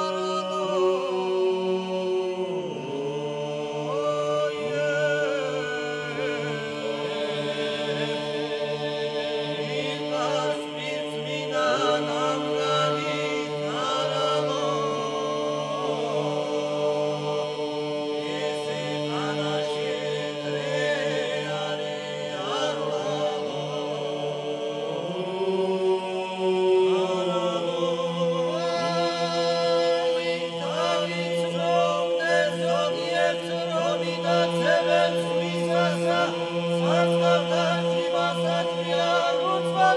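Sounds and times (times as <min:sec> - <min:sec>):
men singing polyphony a cappella: 0:00.0 - 0:39.9.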